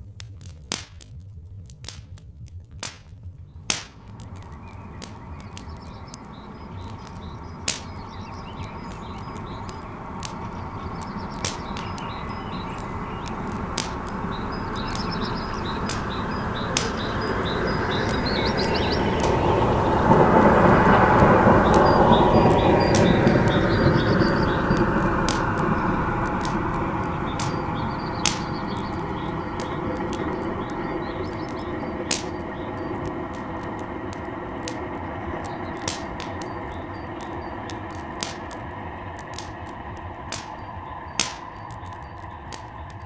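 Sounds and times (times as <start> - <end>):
wood fire crackling: 0.0 - 43.0
small birds chirping: 3.5 - 43.0
steam locomotive rumble: 3.8 - 43.0.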